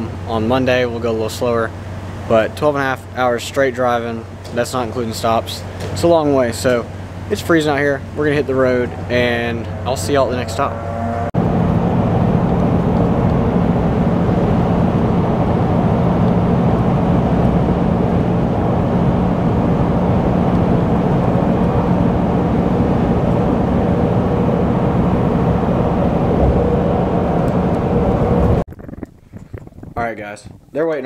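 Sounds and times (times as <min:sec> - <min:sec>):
tyre and road noise in cab: 0:03.7 - 0:28.7.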